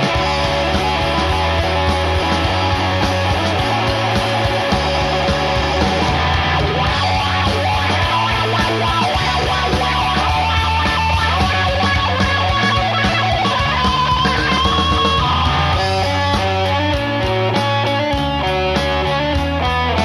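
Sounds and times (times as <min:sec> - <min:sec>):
bass guitar: 0:00.0 - 0:20.0
drums: 0:00.0 - 0:20.0
electric guitar: 0:00.0 - 0:20.0.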